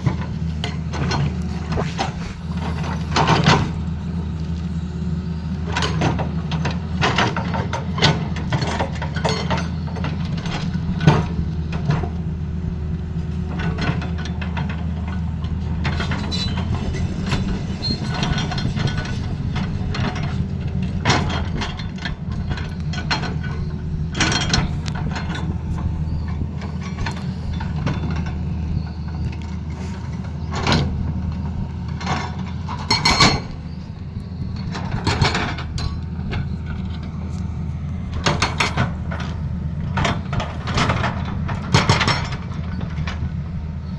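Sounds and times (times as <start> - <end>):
excavator diesel engine running: 0.0 - 43.9
metallic clanks and knocks: 5.7 - 12.2, 13.5 - 29.6, 30.5 - 43.2.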